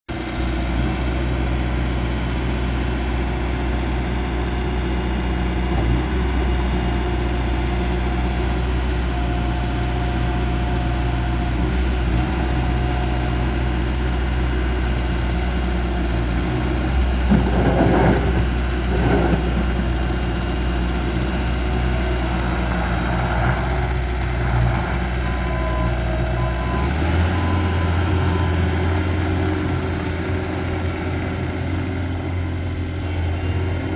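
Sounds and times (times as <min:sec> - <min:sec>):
loader engine running: 0:00.1 - 0:33.9.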